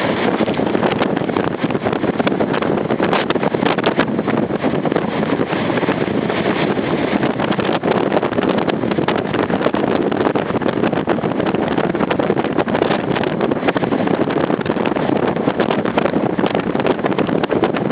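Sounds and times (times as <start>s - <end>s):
strong wind buffeting microphone: 0.0s - 17.9s.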